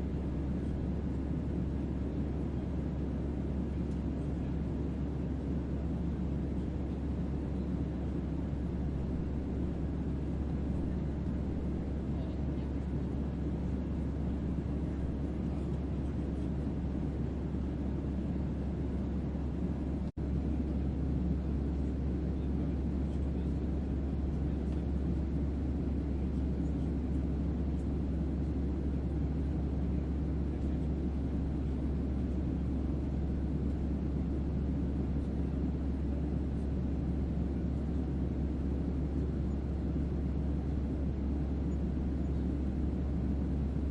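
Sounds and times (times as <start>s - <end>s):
white-noise spaceship ambience: 0.0s - 43.9s.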